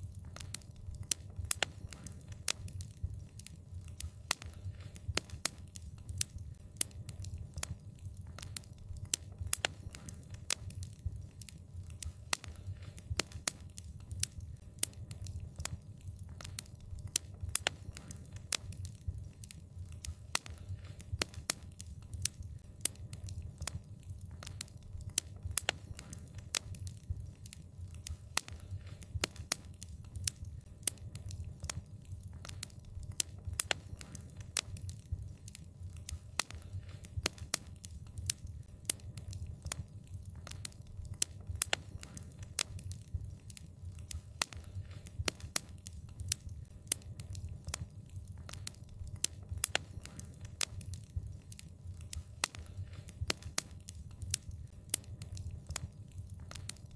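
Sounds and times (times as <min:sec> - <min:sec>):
low rumble of burning: 0:00.0 - 0:56.9
wood fire crackling and popping: 0:00.0 - 0:56.9.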